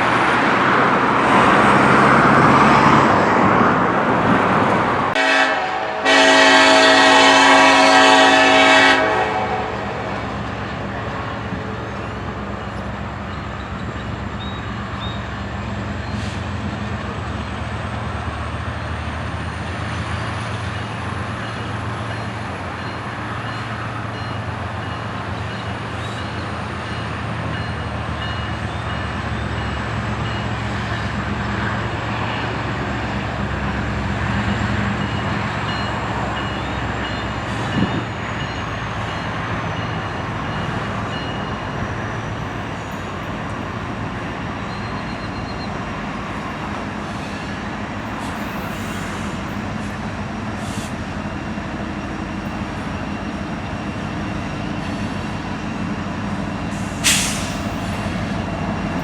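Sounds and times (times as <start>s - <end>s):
locomotive engine drone: 0.0s - 59.0s
train rumble: 0.0s - 59.0s.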